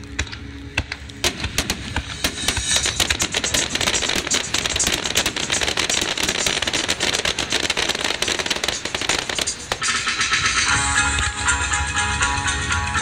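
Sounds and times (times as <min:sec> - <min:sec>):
crackling fireworks pops: 0:00.0 - 0:11.3.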